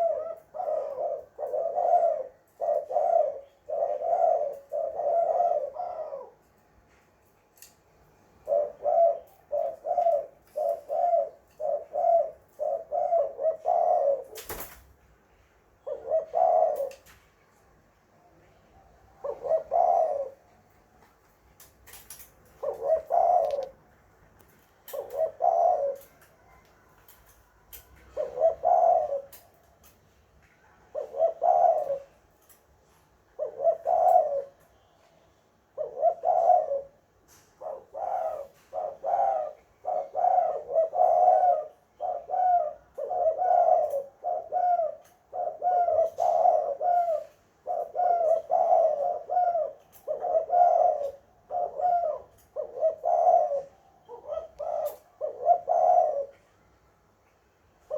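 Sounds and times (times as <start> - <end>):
dove cooing: 0.0 - 6.5, 8.3 - 14.7, 15.8 - 17.2, 18.7 - 20.6, 21.9 - 23.9, 24.8 - 29.9, 30.6 - 32.5, 33.3 - 34.9, 35.7 - 56.7.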